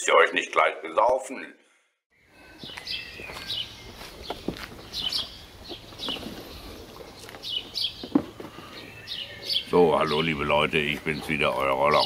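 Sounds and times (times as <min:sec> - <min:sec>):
small birds chirping: 0:02.1 - 0:12.0.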